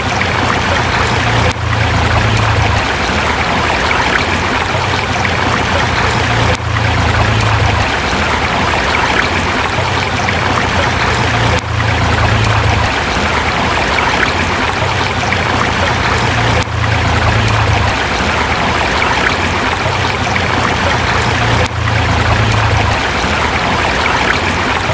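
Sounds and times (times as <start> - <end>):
river water rushing over rocks: 0.0 - 24.9.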